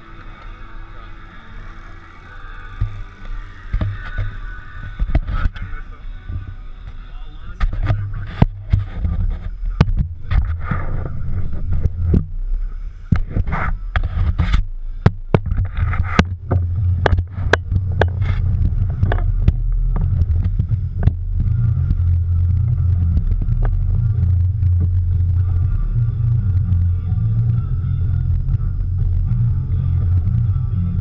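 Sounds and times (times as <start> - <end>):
boat engine rumbling: 0.0 - 31.0
wind on microphone: 1.2 - 31.0.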